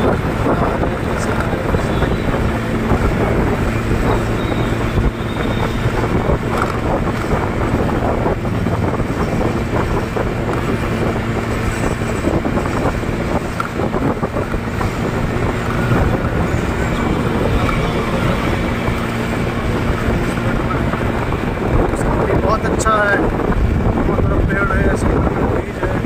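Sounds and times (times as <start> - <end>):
motorbike engine hum: 0.0 - 26.0
wind buffeting on microphone: 0.0 - 26.0.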